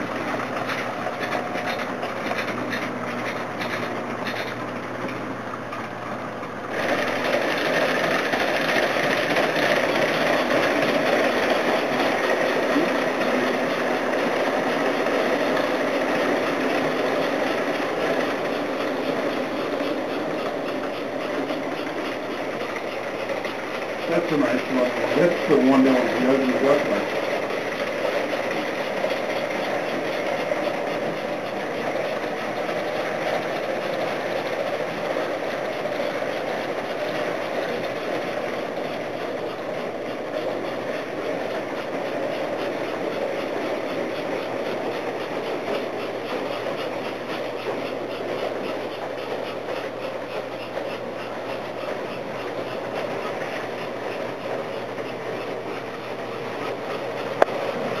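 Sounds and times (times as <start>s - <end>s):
model train wheels clattering: 0.0s - 58.0s.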